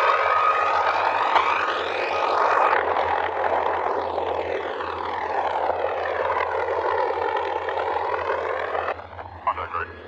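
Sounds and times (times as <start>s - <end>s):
helicopter rotor and turbine noise: 0.0s - 10.0s.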